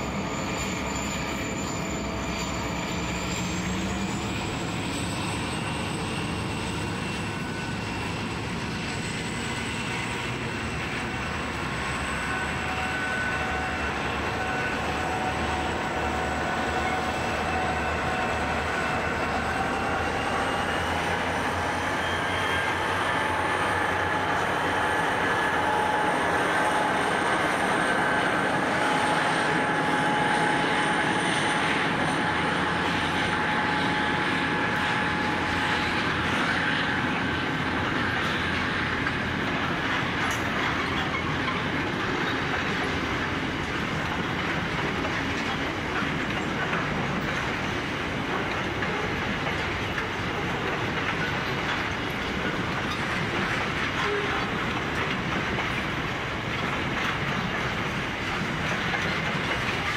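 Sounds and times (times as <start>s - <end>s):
train wheels on rails: 0.0s - 59.9s
clicking at rail joints: 10.2s - 59.9s.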